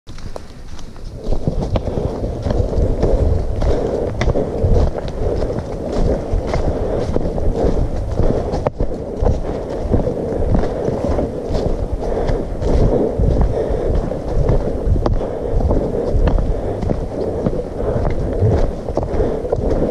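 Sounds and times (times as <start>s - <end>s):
footsteps on fallen leaves: 0.1s - 19.9s.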